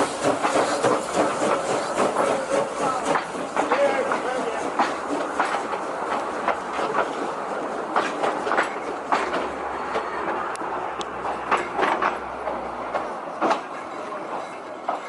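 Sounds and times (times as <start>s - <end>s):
train rumbling on rails: 0.0s - 15.0s
wheels clicking over rail joints: 0.0s - 15.0s.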